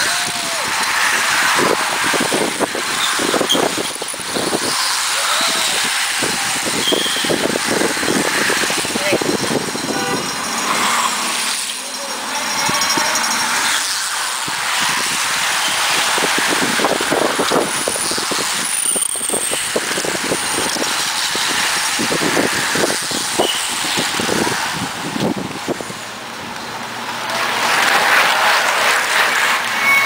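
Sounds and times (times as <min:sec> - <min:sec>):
bicycles rushing past: 0:00.0 - 0:30.0.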